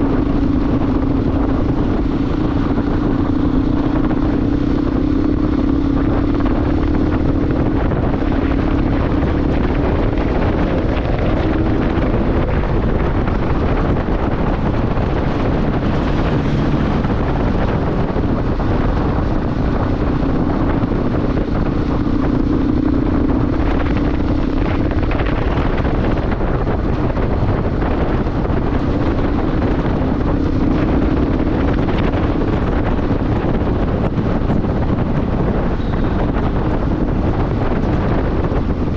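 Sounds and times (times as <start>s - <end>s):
motorcycle engine hum: 0.0s - 38.9s
wind buffeting microphone: 0.0s - 38.9s.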